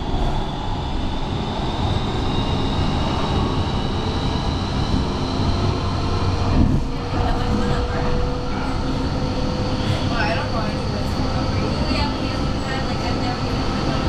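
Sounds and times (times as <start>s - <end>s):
train rumble and rattle on rails: 0.0s - 14.0s.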